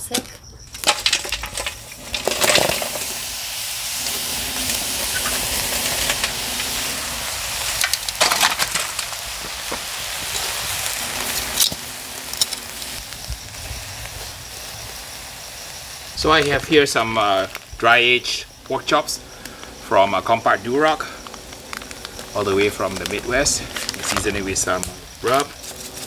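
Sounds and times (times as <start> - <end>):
crackling hiss of burning coals: 0.0 - 26.0
charcoal clattering out: 0.1 - 26.0.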